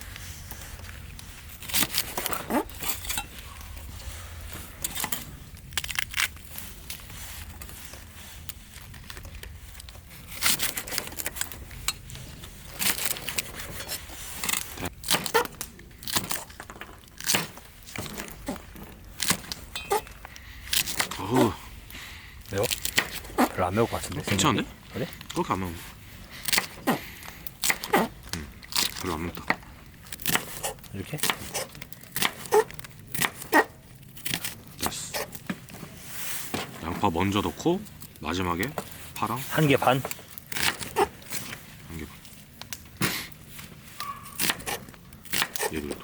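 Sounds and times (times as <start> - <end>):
rustling and crinkling: 0.0 - 46.0.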